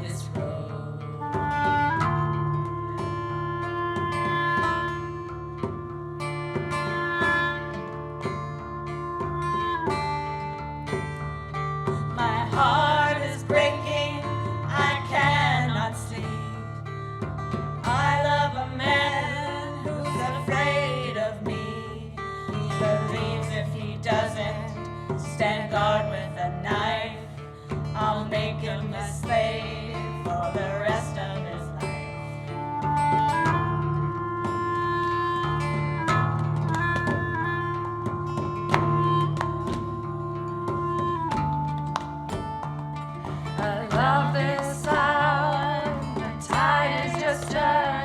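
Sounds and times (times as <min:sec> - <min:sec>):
acoustic guitar accompaniment: 0:00.0 - 0:48.0.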